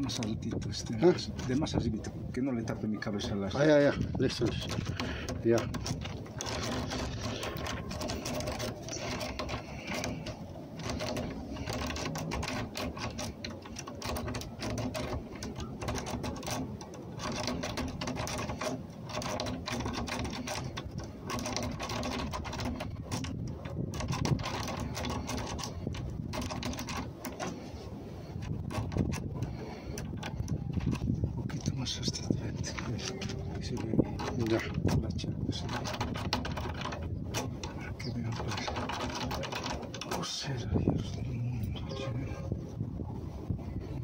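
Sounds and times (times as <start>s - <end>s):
lock pick clicking and scraping: 3.2s - 42.5s.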